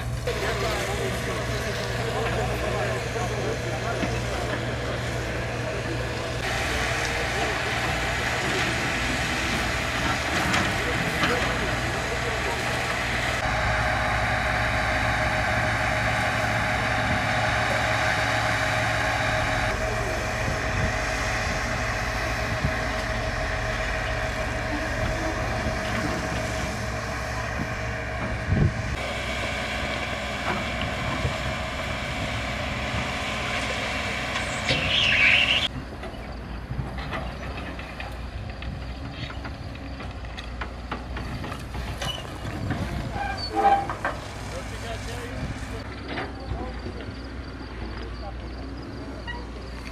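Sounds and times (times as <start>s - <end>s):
heavy diesel machinery running: 0.0s - 49.9s.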